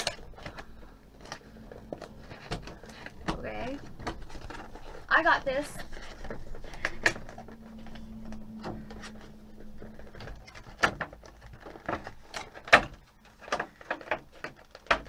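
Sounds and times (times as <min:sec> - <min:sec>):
faint steady hum: 0:00.0 - 0:15.0
plastic packaging clicks and rustles: 0:00.0 - 0:15.0.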